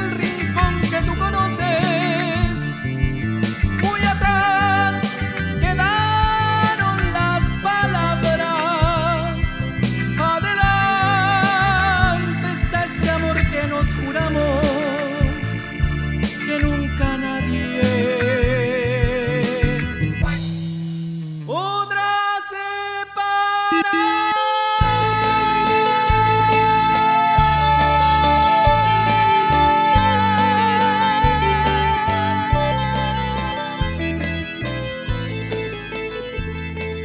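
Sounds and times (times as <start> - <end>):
lead electric guitar melody: 0.0 - 21.5, 23.7 - 37.0
bass: 0.0 - 22.2, 24.7 - 37.0.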